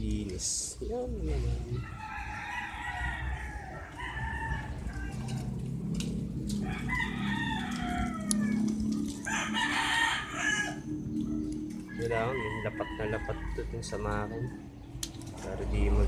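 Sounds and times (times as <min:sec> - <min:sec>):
rooster crowing: 0:01.7 - 0:14.9.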